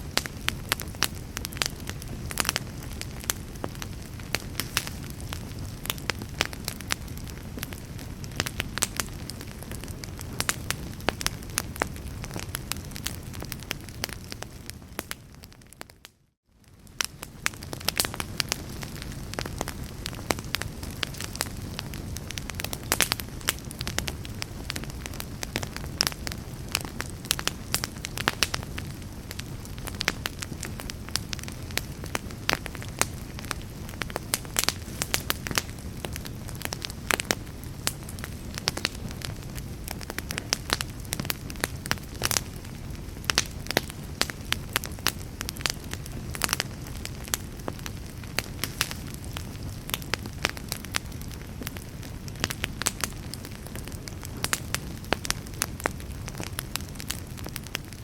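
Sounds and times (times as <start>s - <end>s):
low rumble of flame: 0.0s - 58.0s
wood fire crackling and popping: 0.0s - 58.0s.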